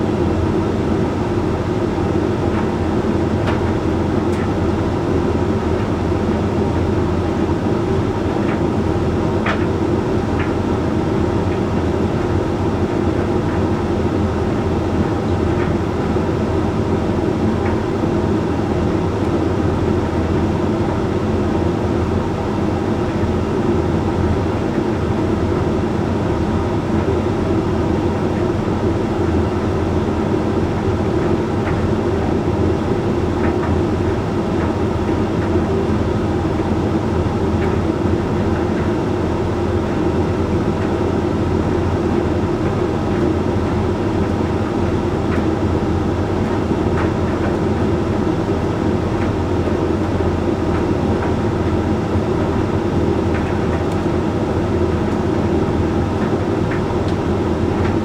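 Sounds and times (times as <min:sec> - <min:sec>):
tumble dryer rumbling hum: 0:00.0 - 0:58.0.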